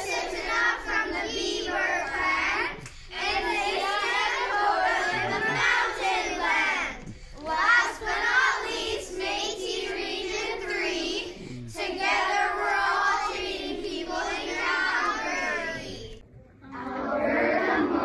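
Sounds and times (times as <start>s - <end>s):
children chanting in unison: 0.0s - 16.1s, 16.7s - 18.0s.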